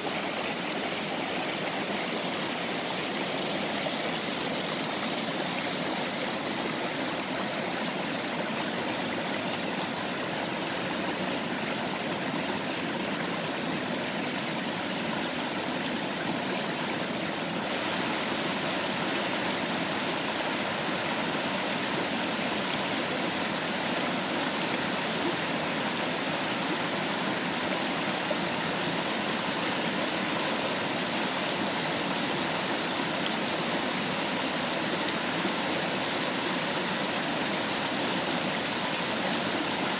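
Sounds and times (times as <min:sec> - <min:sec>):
stream rushing over small waterfall: 0:00.0 - 0:39.9.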